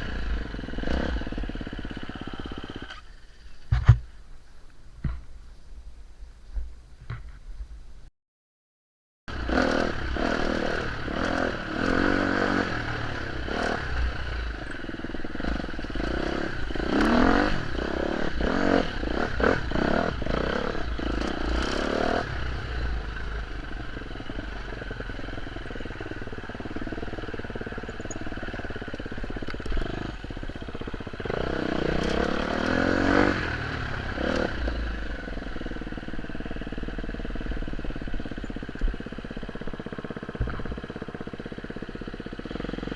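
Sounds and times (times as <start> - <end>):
motorcycle engine revving: 0.0 - 4.0, 9.3 - 42.9.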